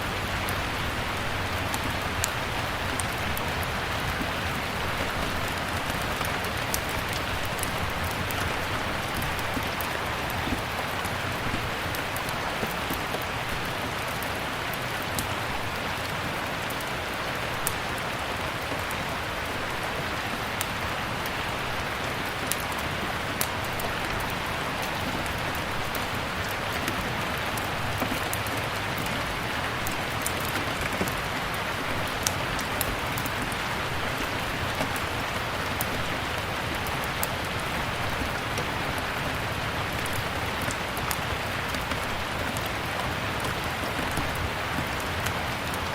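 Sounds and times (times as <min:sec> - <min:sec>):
steady rain hiss: 0:00.0 - 0:45.9
log fire crackling: 0:00.1 - 0:45.9.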